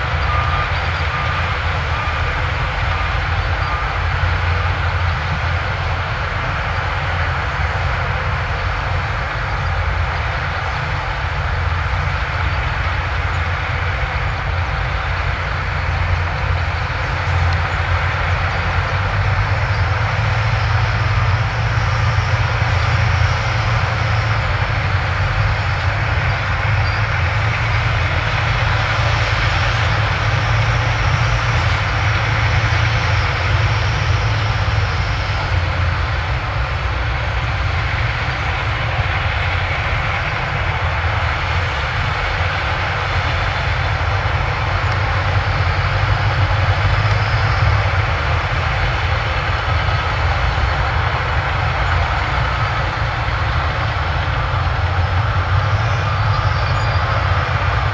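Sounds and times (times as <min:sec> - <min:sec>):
bulldozer engine running: 0:00.0 - 0:57.9.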